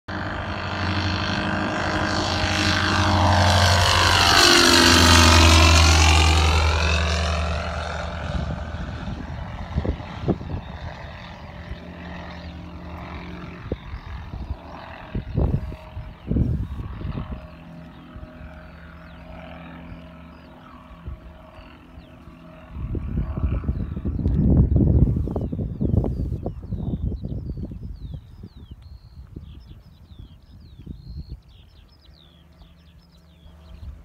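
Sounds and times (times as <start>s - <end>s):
propeller plane flying past: 0.1s - 34.0s.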